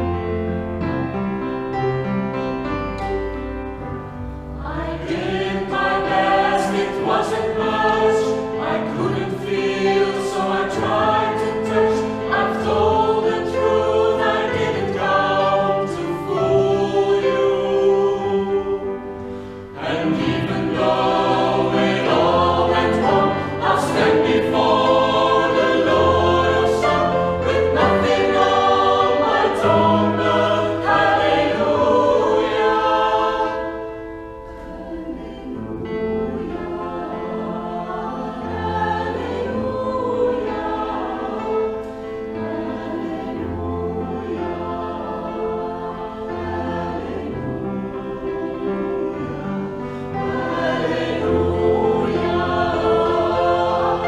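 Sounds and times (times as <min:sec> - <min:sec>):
mixed group singing in harmony: 0:03.9 - 0:54.0.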